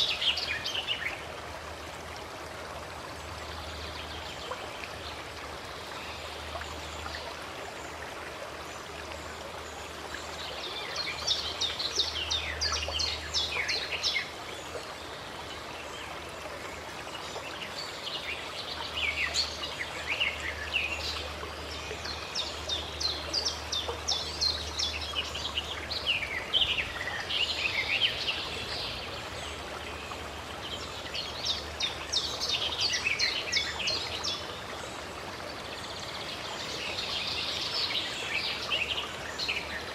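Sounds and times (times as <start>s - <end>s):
songbirds chirping: 0.0s - 39.9s
stream water running: 0.0s - 39.9s.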